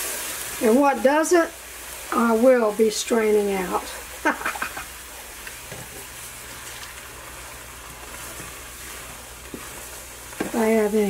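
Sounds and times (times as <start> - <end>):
stock sizzling in a skillet: 0.0 - 11.0.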